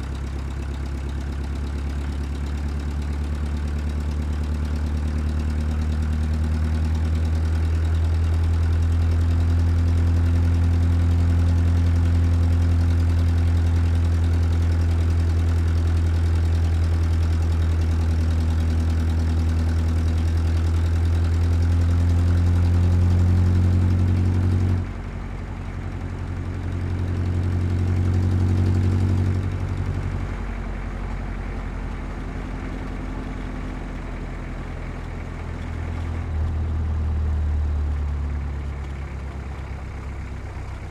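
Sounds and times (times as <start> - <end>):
heavy truck engine running: 0.0 - 40.9.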